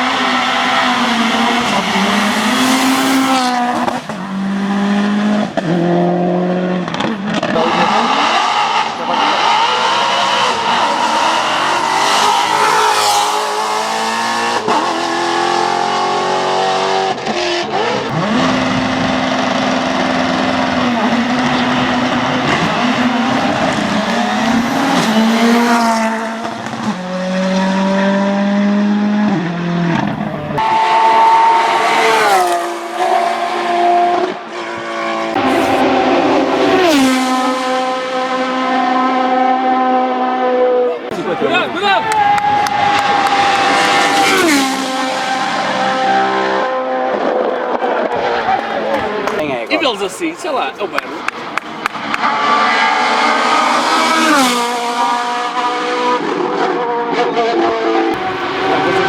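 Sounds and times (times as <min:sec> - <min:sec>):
race car engines revving high: 0:00.0 - 0:59.0.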